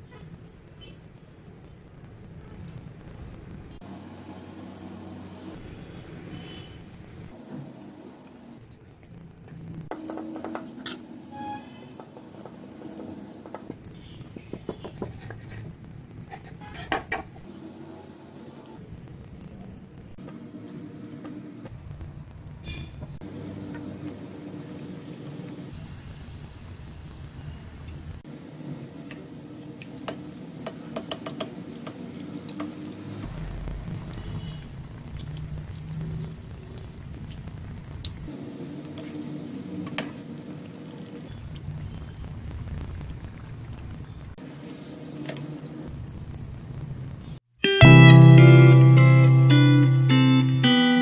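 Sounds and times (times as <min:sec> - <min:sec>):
batter deep-frying in hot oil: 0:00.0 - 0:47.4.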